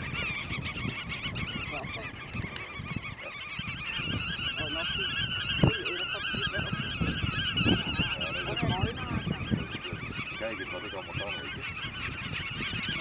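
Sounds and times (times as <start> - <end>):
chorus of birds calling: 0.0 - 13.0
wind buffeting microphone: 0.0 - 13.0.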